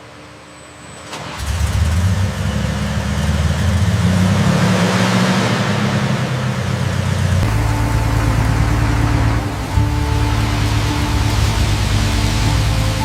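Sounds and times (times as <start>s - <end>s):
engine starting and running: 0.9s - 13.0s.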